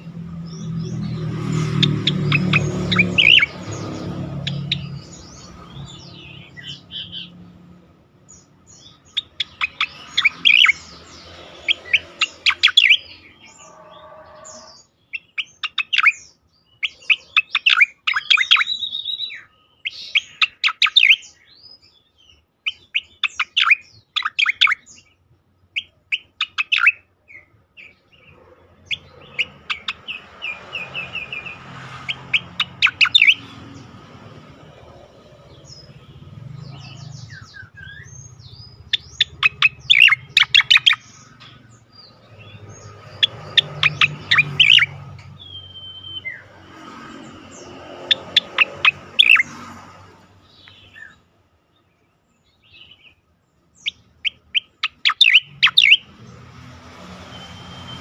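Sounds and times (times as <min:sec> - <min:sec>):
bird whistled song: 0:00.5 - 0:07.4, 0:08.3 - 0:25.2, 0:25.8 - 0:33.9, 0:34.8 - 0:46.6, 0:47.4 - 0:49.5, 0:53.8 - 0:56.1, 0:57.1 - 0:58.0.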